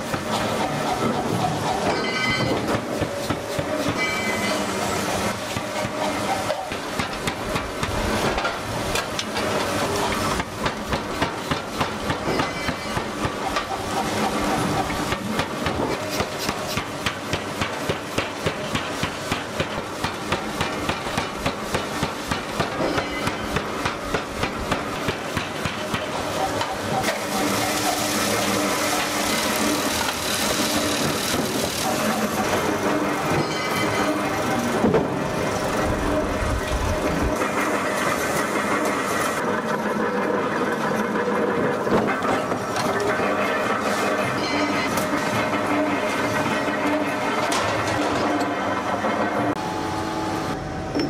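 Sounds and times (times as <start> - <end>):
forging hammer pounding steel: 0.0 - 49.6.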